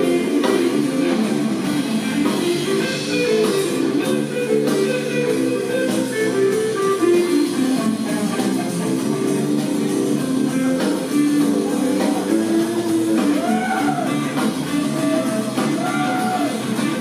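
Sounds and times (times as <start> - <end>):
drum kit: 0.0 - 17.0
electric bass: 0.0 - 17.0
electric guitar: 0.0 - 17.0.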